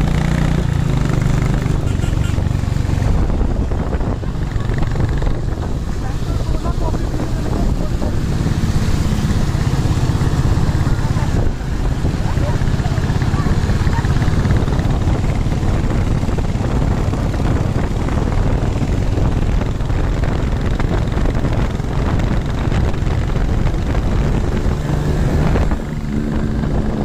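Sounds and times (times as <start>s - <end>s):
motorcycle engine: 0.0s - 27.0s
tyres on wet road: 0.0s - 27.0s
wind on microphone: 0.0s - 27.0s.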